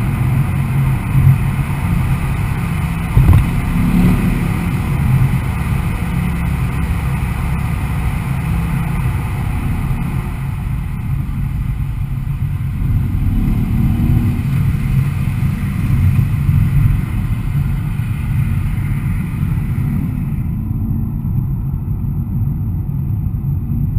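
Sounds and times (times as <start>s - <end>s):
car engine low rumble: 0.0s - 23.9s
road and wind hiss: 0.0s - 23.9s.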